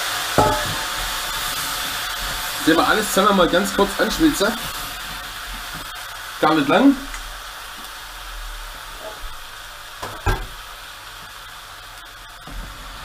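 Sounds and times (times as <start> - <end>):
vegetables sizzling in fat: 0.0 - 13.0.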